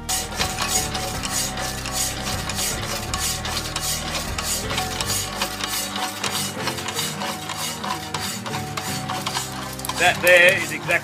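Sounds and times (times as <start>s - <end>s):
small motor humming: 0.0s - 10.2s
hacksaw blade scraping steel: 0.0s - 11.0s.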